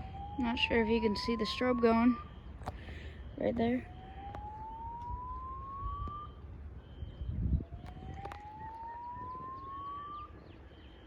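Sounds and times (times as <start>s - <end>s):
distant whooping fire alarm: 0.0s - 11.0s.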